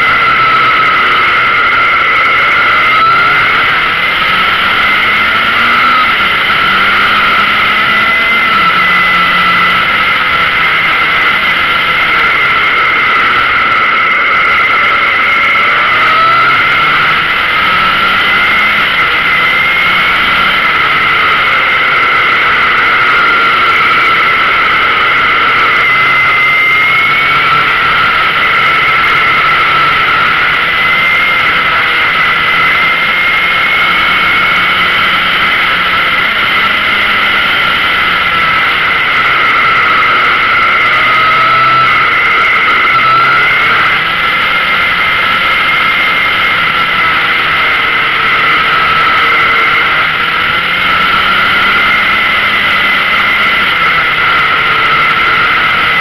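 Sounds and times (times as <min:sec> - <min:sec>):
motorcycle engine running: 0:00.0 - 0:56.0
steady high whistle: 0:00.0 - 0:56.0.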